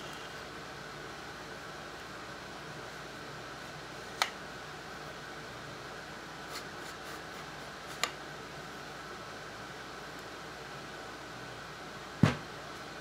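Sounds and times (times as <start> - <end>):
steady workshop hum: 0.0 - 13.0.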